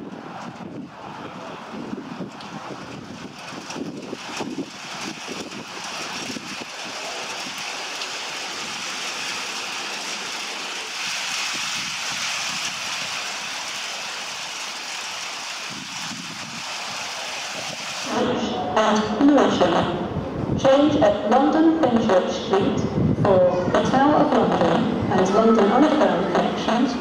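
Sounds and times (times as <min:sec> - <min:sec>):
wind buffeting microphone: 0:00.0 - 0:09.0, 0:11.0 - 0:13.5, 0:15.6 - 0:27.0
electric train running on rails: 0:00.0 - 0:27.0.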